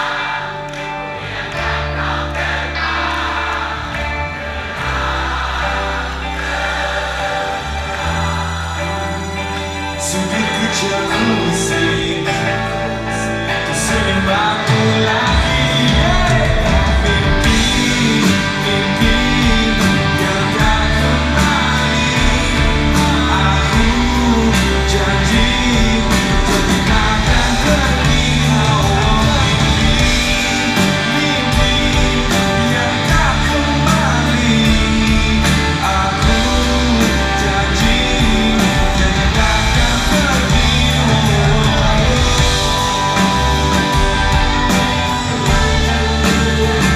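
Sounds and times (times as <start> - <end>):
rock song with singing: 0.0 - 46.9.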